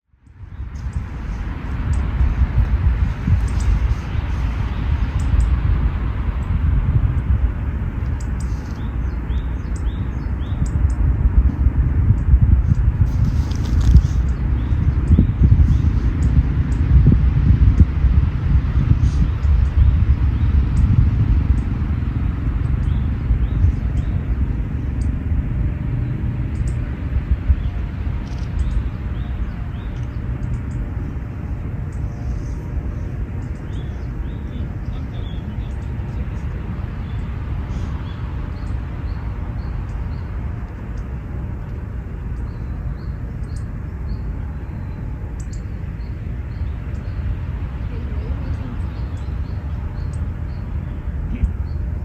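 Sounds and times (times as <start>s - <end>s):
low outdoor ambience rumble: 0.0s - 52.0s
small birds chirping: 0.1s - 11.1s, 12.1s - 25.2s, 26.1s - 52.0s
wind buffeting microphone: 0.1s - 52.0s.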